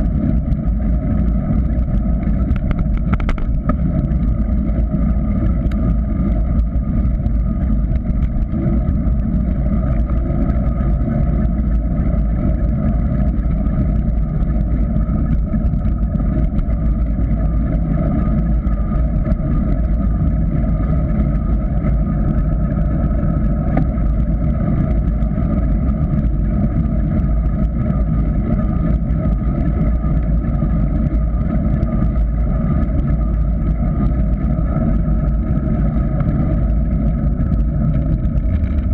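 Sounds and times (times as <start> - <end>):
bike tyre rumble on asphalt: 0.0 - 38.9.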